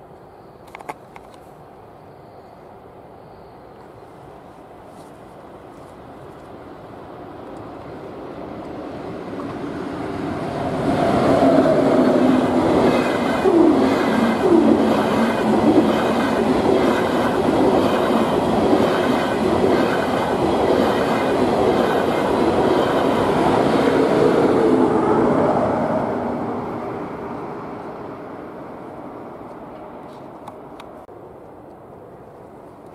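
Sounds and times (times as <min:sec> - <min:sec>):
high-speed train passing: 0:05.4 - 0:32.9.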